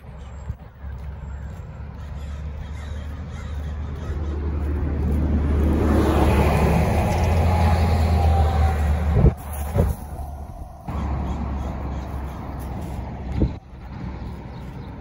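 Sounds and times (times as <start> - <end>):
vehicle engine rumble: 0.0 - 15.0
wind and road noise: 0.0 - 15.0.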